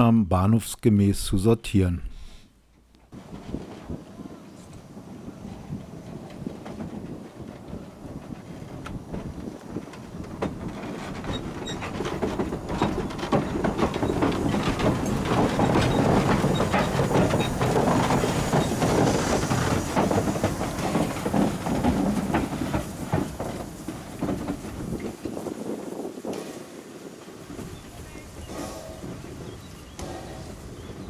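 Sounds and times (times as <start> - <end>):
wheels clicking over rail joints: 2.7 - 31.0
steam train rumbling past: 3.1 - 31.0.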